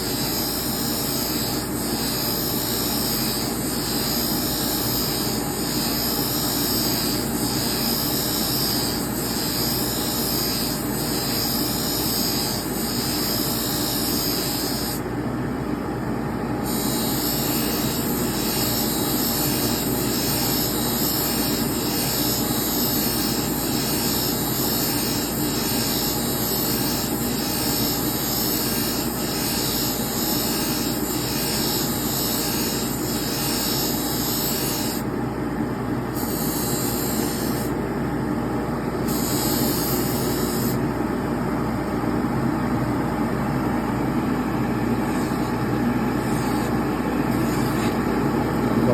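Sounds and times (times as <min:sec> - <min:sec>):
knife sharpener motor grinding: 0:00.0 - 0:15.0, 0:16.6 - 0:35.1, 0:36.2 - 0:37.8, 0:39.1 - 0:40.8, 0:44.9 - 0:48.1.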